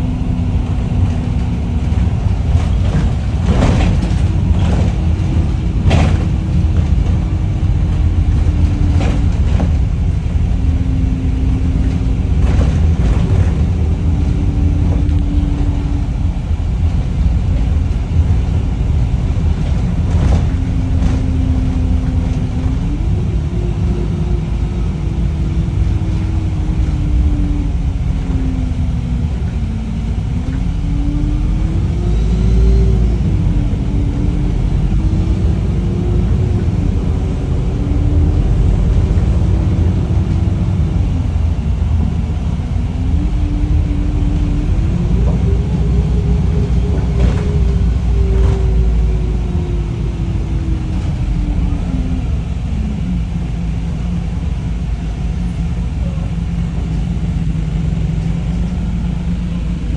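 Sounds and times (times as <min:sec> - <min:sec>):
bus engine and road rumble: 0:00.0 - 0:59.9
drivetrain whine: 0:00.0 - 0:59.9.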